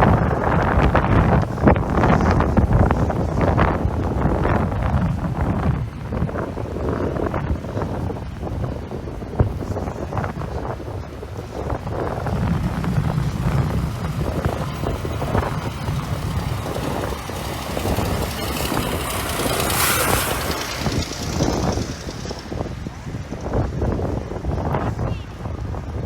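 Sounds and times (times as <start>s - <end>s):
hissing wind gust: 0.0s - 26.0s
wind buffeting the microphone: 0.0s - 26.0s.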